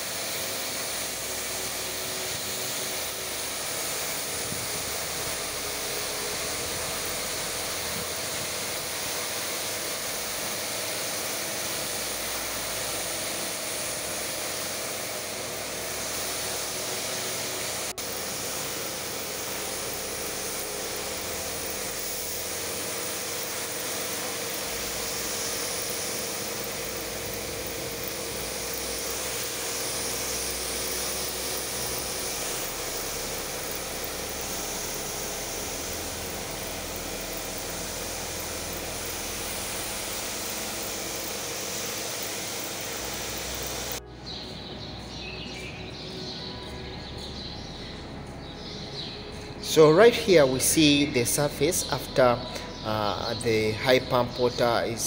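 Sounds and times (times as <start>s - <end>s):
faint motor hum: 0.0s - 55.0s
pressure washer spraying stone floor: 0.0s - 55.0s.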